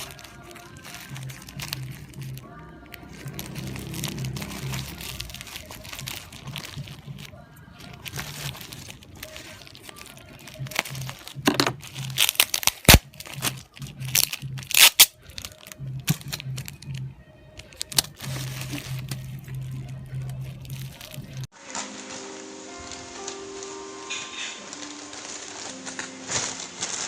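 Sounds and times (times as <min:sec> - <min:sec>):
background music: 0:00.0 - 0:27.0
plastic packaging crinkling and tearing: 0:00.0 - 0:27.0.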